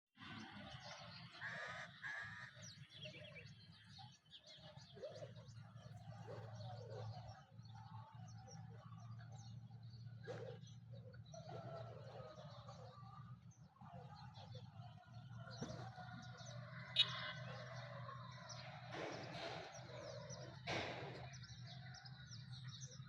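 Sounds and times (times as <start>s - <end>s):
wild birds singing: 0.2s - 23.0s.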